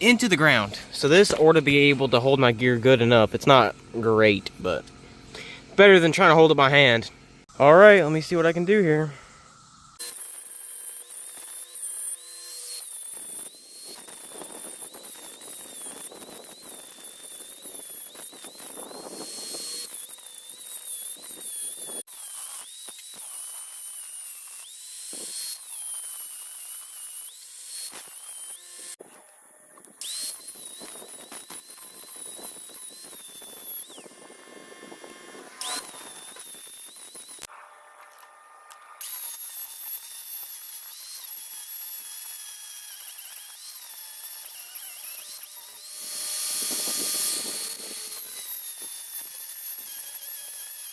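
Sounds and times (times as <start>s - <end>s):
power tool grinding steel: 0.0s - 50.9s.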